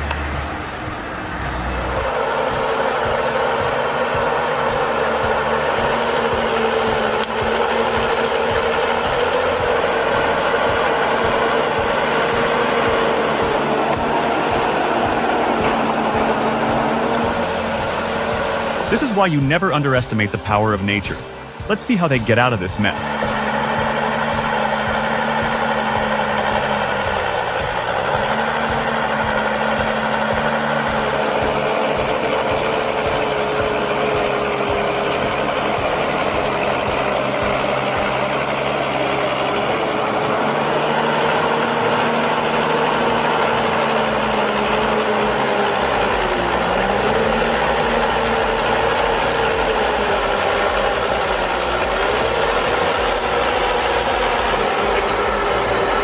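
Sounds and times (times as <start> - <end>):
heavy diesel engine straining: 0.0 - 56.0.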